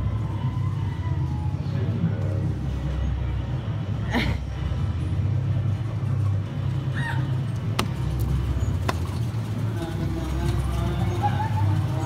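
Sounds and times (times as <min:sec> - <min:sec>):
go-karts engines rumbling: 0:00.0 - 0:12.0.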